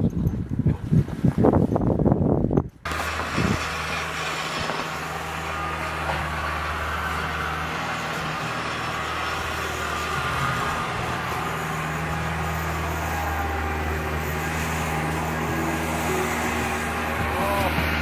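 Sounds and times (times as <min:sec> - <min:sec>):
tractor engine running: 0:02.8 - 0:18.0.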